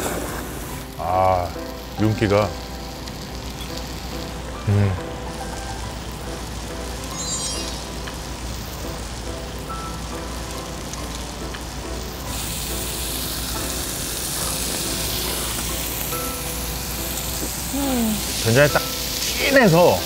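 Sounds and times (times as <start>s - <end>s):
beef sizzling on grill pan: 0.0s - 20.0s.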